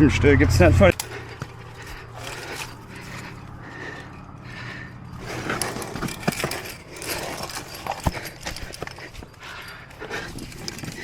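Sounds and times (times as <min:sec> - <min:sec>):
climbing gear clinking on rock: 0:00.8 - 0:11.0.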